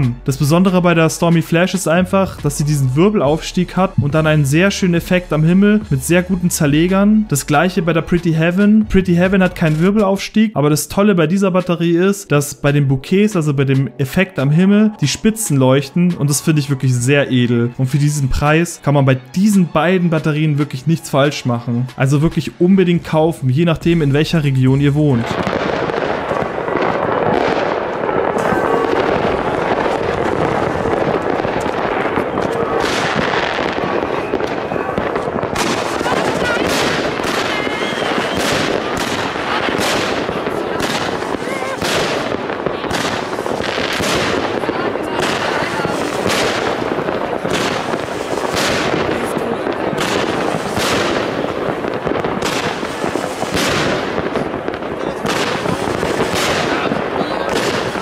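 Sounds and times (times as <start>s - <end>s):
fireworks bangs and crackling: 0.0s - 10.1s, 11.0s - 58.0s.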